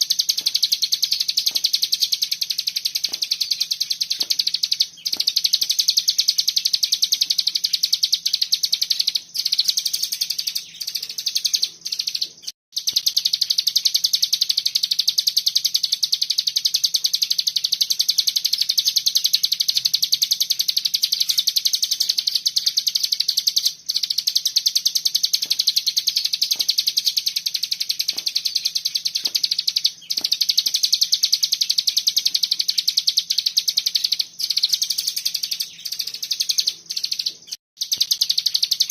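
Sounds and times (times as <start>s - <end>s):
songbird fast trill: 0.0s - 38.9s.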